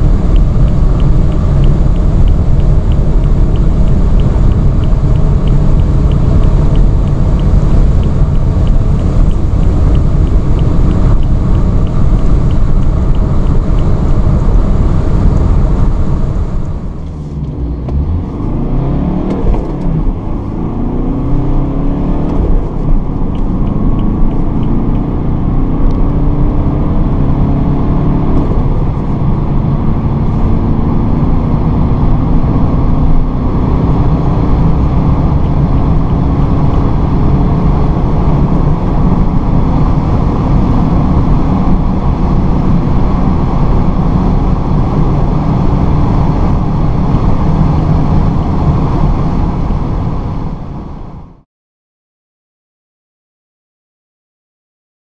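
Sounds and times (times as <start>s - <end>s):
diesel engine accelerating: 0.0s - 51.4s
wind noise: 0.0s - 51.4s.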